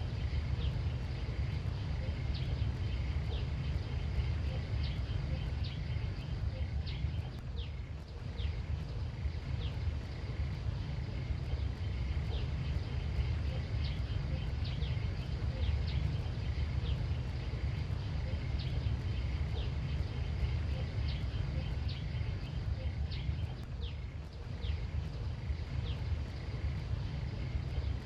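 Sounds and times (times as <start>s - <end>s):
faint high hum: 0.0s - 28.0s
low rumble: 0.0s - 28.0s.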